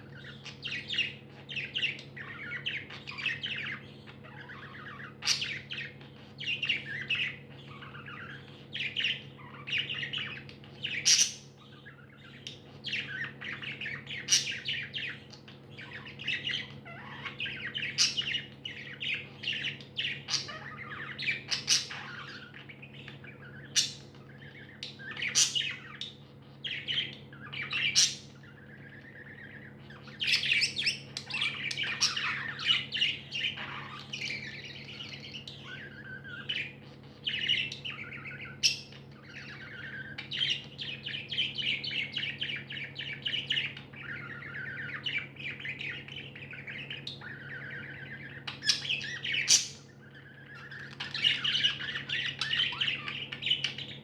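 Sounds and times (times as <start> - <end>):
budgerigars chattering: 0.0 - 54.0
steady low hum: 0.0 - 54.0.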